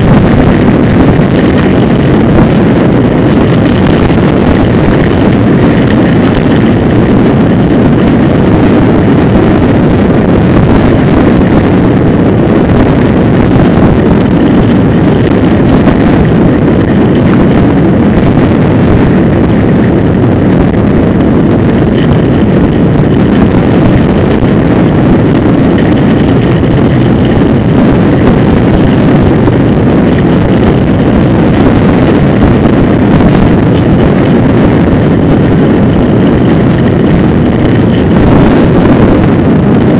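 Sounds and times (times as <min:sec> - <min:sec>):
road rumble: 0:00.0 - 0:39.9
wind buffeting microphone: 0:00.0 - 0:39.9.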